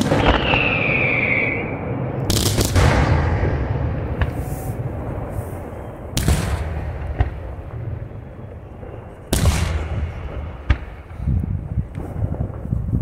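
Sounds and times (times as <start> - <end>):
firework cracks: 0.0 - 8.2, 8.8 - 13.0
low rumble: 1.5 - 13.0.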